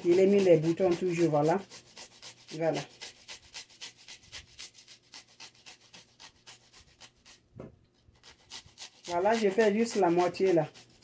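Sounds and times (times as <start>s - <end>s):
cucumber rasping on metal grater: 0.0s - 11.0s.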